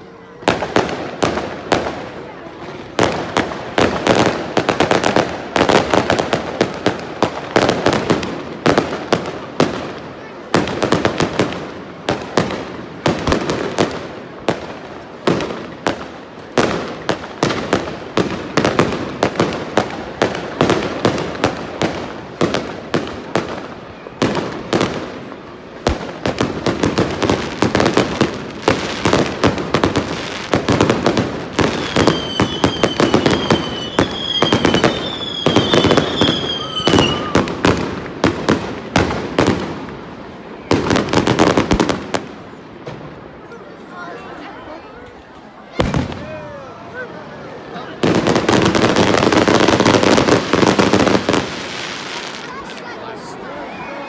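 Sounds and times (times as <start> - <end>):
high whistling fireworks: 0.0 - 43.6, 45.6 - 54.0
fireworks bangs and crackles: 0.0 - 54.0.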